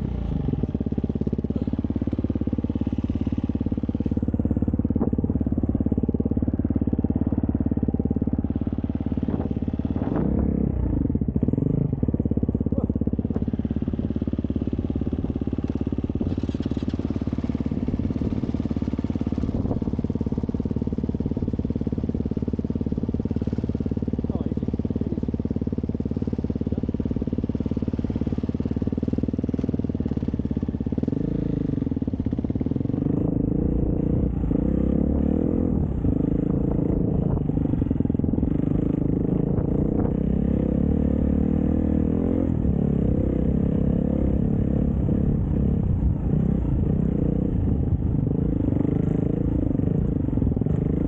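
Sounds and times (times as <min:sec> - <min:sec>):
dirt bike engine: 0:00.0 - 0:51.0.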